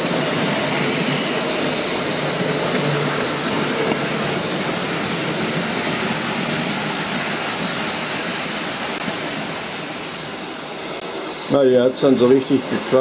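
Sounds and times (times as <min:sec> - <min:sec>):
model trains whirring on metal track: 0:00.0 - 0:13.0.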